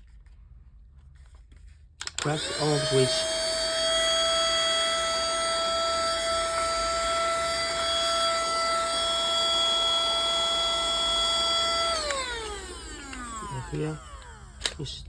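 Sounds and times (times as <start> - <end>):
handheld vacuum whining: 2.0 - 15.0.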